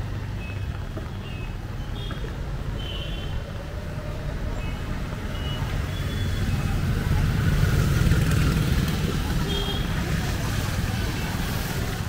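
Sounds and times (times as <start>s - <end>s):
motorcycles passing: 0.0s - 12.0s
traffic on a wet road: 0.0s - 12.0s.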